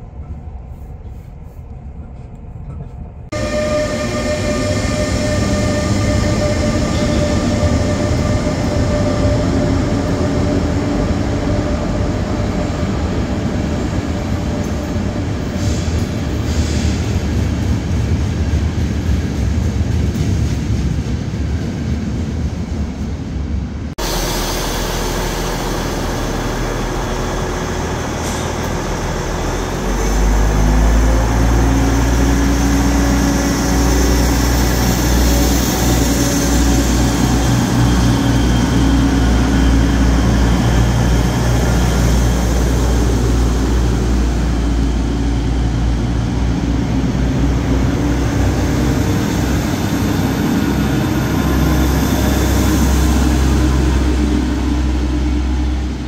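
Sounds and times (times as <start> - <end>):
train diesel engines droning: 0.0 - 56.0.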